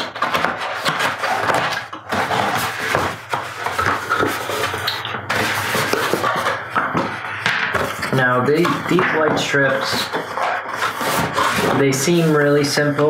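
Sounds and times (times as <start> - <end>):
plastic and cardboard rustling: 0.0 - 13.0.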